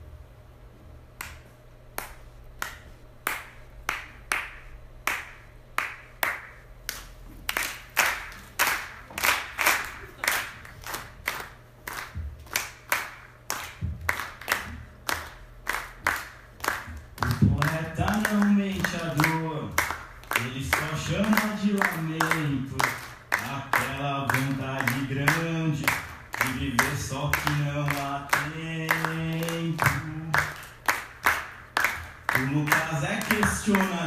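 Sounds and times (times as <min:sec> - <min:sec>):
rhythmic handclaps: 0:01.2 - 0:34.0.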